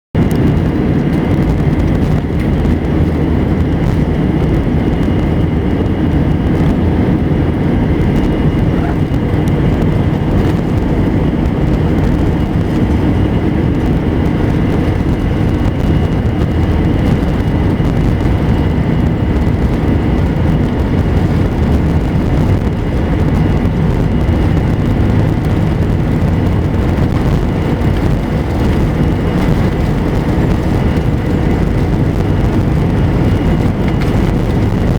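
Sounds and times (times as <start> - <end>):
faint steady whine: 0.2 - 34.9
jet engines rumbling: 0.2 - 34.9.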